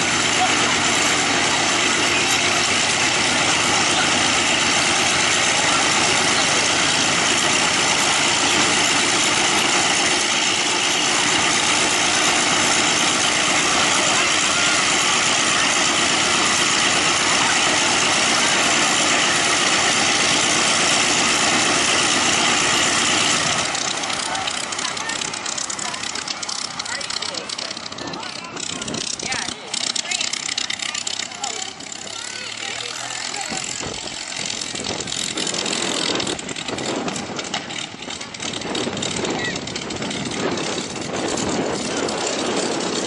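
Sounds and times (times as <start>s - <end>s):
radial piston aircraft engines running: 0.0s - 43.0s.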